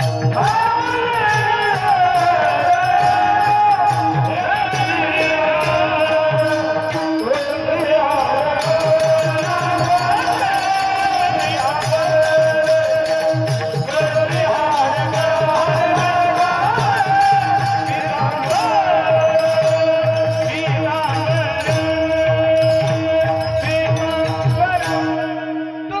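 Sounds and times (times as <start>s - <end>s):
drum beat: 0.0s - 25.2s
person singing: 0.0s - 26.0s.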